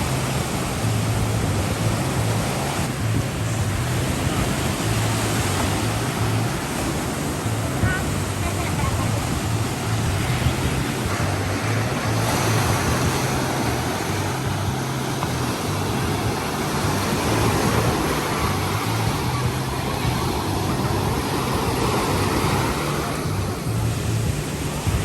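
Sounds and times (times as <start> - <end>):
ocean surf breaking: 0.0 - 25.0
wind rumbling on microphone: 0.0 - 25.0.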